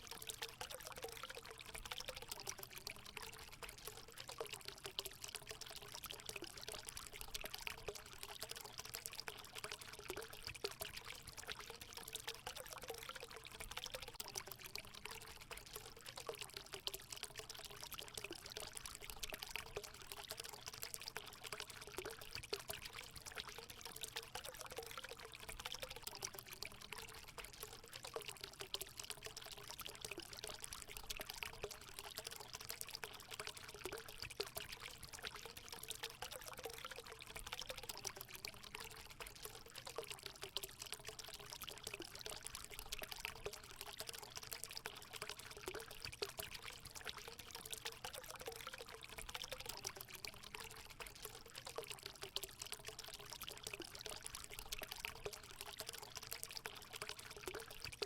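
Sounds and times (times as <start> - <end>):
faint water gurgle: 0.0 - 58.0
water pouring into pool: 0.0 - 58.0.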